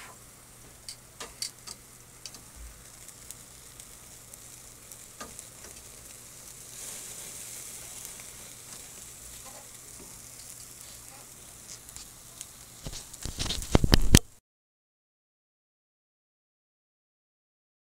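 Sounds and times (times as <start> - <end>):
food sizzling on charcoal grill: 0.0 - 14.4.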